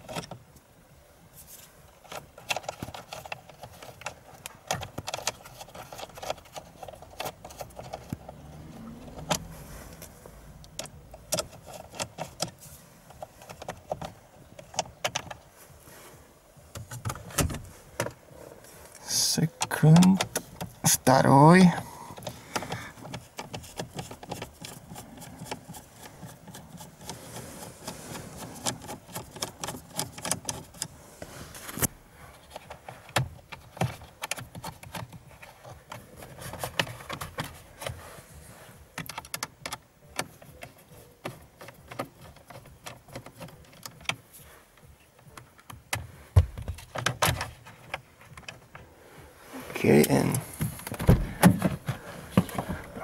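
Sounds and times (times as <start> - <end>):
tools and plastic parts clicking: 0.0 - 0.5, 2.0 - 15.5, 16.7 - 18.2, 18.9 - 31.0, 31.7 - 38.0, 38.8 - 48.8.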